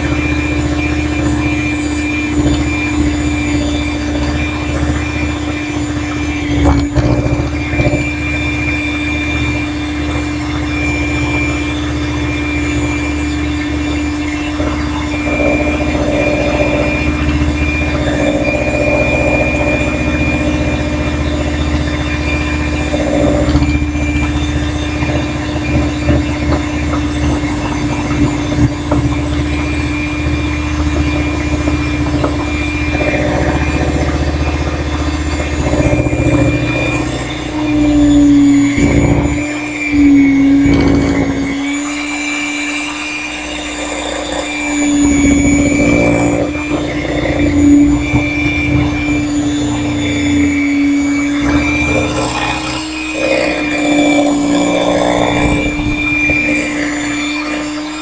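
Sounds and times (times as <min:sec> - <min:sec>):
electric hand mixer whining: 0:00.0 - 0:58.0.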